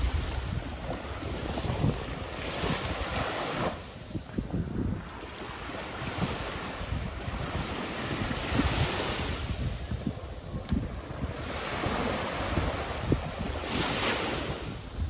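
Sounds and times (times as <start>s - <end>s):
small waves washing on sand: 0.0s - 15.0s
wind buffeting microphone: 0.0s - 15.0s.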